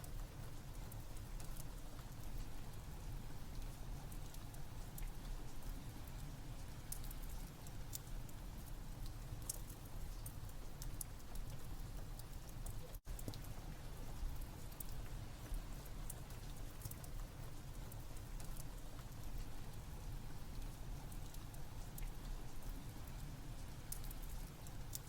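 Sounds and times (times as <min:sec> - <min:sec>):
steady rain: 0:00.0 - 0:25.0
wood fire crackling: 0:00.1 - 0:25.0.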